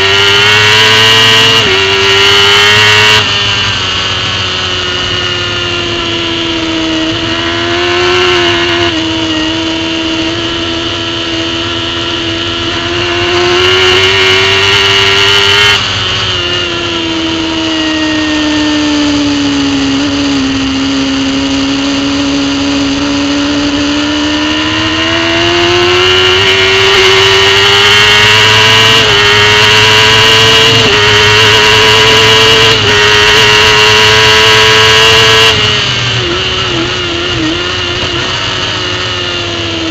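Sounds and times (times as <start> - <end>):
superbike engine at high revs: 0.0 - 39.9.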